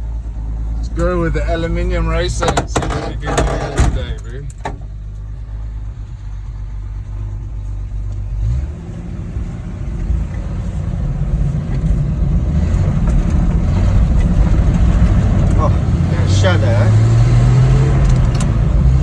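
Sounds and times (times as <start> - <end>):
pickup truck engine accelerating: 0.0 - 19.0.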